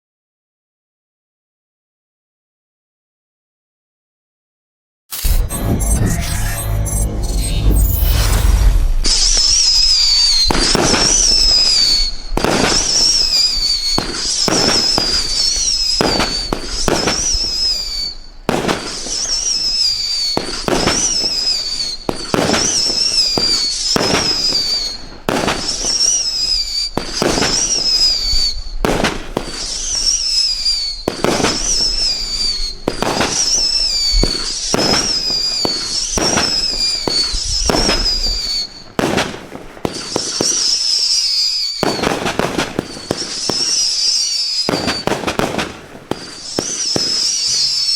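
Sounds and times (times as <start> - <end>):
high wavering firework whistle: 5.1 - 47.9
firework launch cracks: 7.6 - 47.9.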